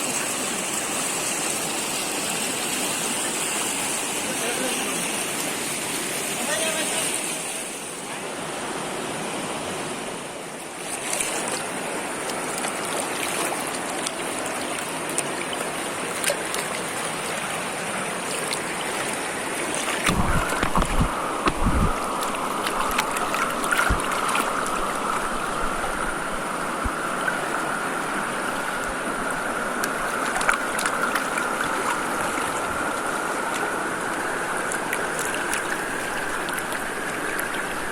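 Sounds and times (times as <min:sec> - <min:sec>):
rushing water: 0:00.0 - 0:37.9.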